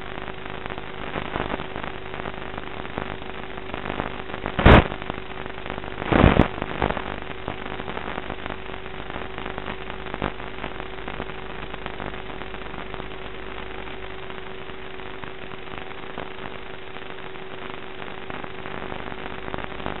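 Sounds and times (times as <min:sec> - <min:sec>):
constant hum: 0:00.0 - 0:20.0
radio static hiss: 0:00.0 - 0:20.0.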